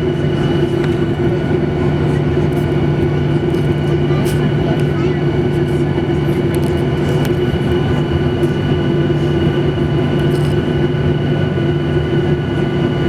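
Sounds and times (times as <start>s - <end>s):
aircraft cabin drone: 0.0s - 13.0s.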